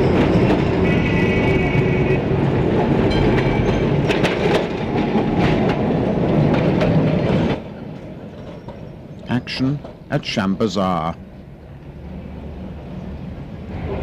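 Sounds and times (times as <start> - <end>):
tram wheels clattering over rail joints: 0.0 - 14.0.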